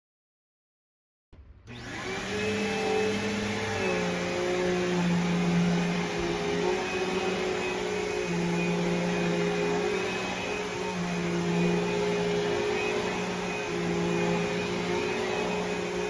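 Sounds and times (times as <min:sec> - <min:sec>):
vacuum cleaner motor humming: 0:01.7 - 0:16.0.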